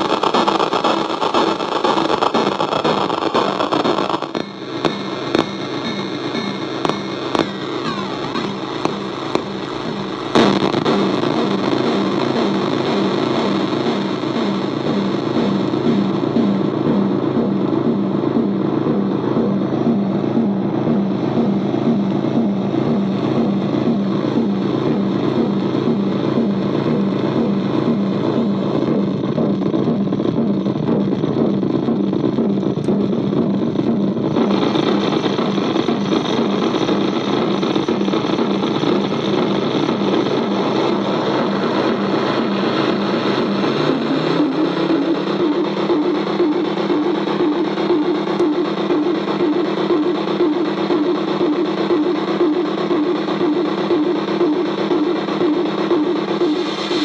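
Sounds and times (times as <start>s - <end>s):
glitchy electronic buzzing drone: 0.0s - 57.0s.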